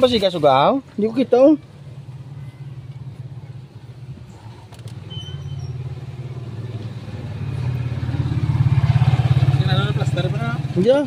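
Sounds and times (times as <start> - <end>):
diesel engine idling: 0.5 - 11.0.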